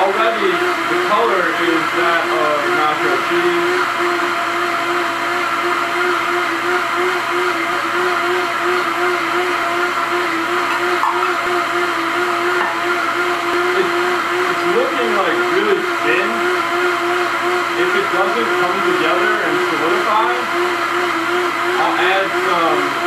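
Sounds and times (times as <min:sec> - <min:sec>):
blender motor whine: 0:00.0 - 0:23.0.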